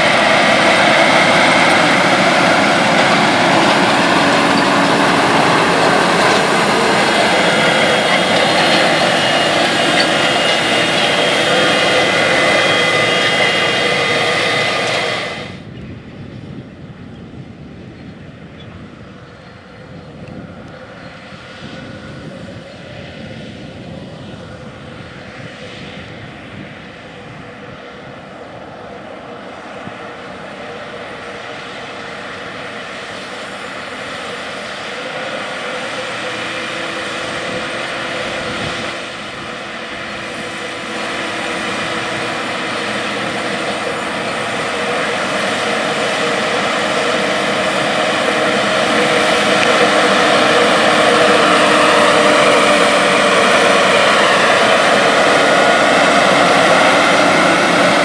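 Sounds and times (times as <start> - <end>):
tractor engine running with whine: 0.0 - 58.0.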